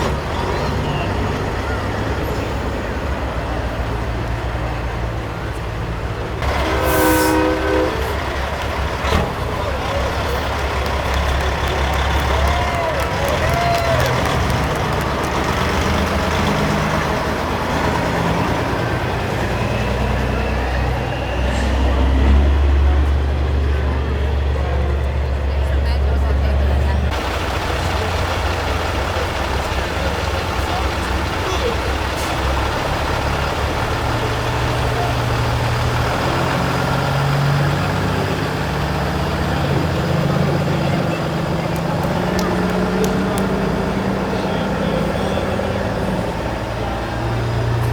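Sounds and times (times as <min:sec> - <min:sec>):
diesel truck engines rumbling: 0:00.0 - 0:47.9.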